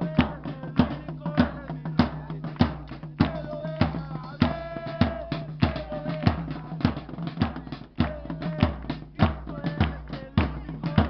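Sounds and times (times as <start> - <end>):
drum strikes in steady rhythm: 0.0 - 11.0.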